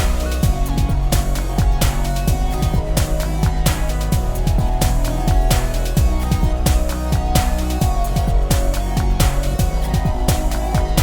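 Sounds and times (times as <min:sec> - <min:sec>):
electronic music with fast beat: 0:00.0 - 0:11.0.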